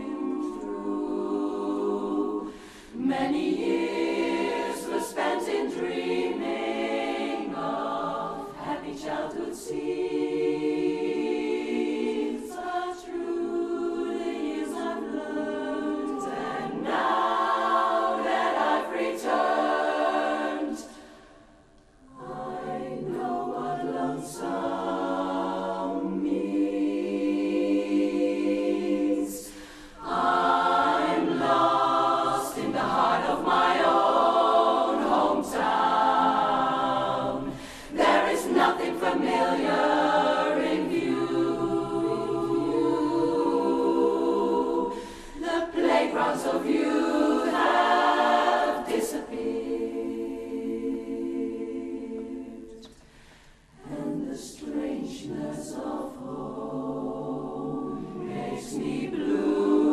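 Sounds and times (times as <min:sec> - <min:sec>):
women's chorus singing a cappella: 0:00.0 - 0:59.9.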